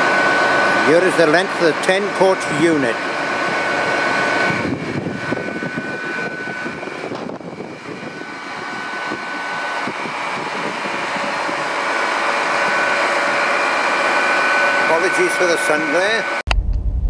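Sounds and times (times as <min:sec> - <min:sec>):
high even whine: 0:00.0 - 0:17.0.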